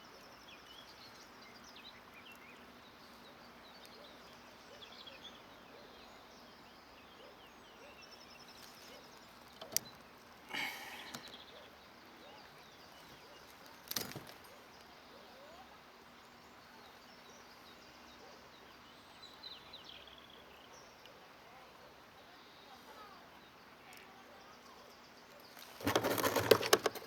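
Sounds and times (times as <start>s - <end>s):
faint bird chirps: 0.0s - 26.4s.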